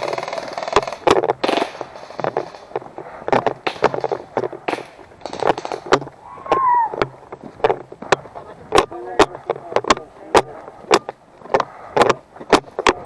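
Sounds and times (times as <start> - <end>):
camera rattling in mount: 0.0 - 13.0.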